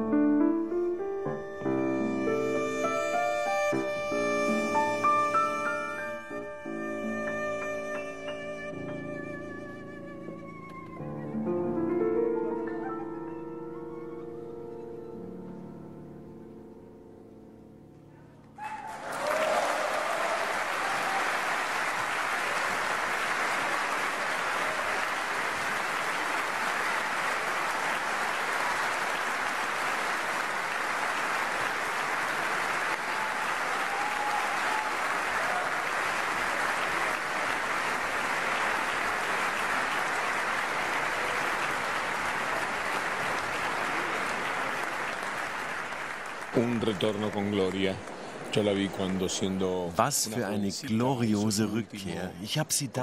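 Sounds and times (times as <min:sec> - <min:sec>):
audience applauding: 0:01.3 - 0:11.0, 0:18.6 - 0:51.6.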